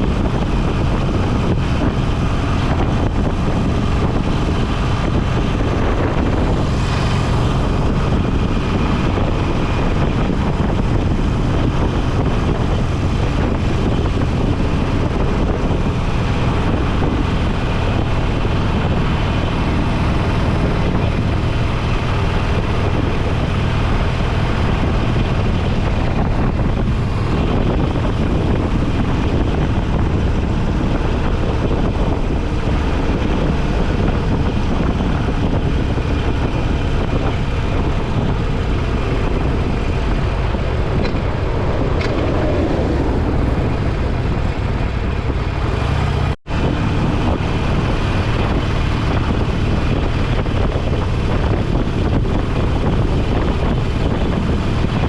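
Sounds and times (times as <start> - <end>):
motorcycle engine: 0.0 - 55.0
wind rush over microphone: 0.0 - 55.0.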